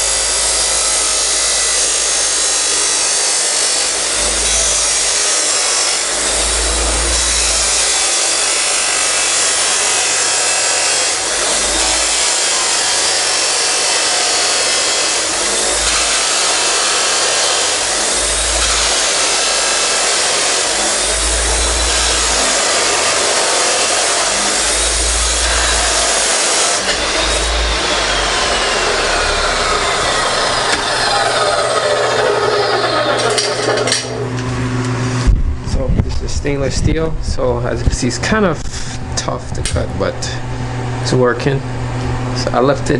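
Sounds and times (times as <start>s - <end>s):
power tool cutting metal pipe: 0.0s - 35.4s.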